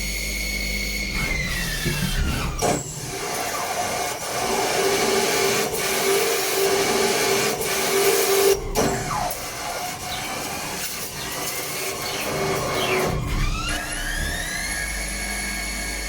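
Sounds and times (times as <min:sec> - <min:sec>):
lathe running with whine: 0:00.0 - 0:16.0.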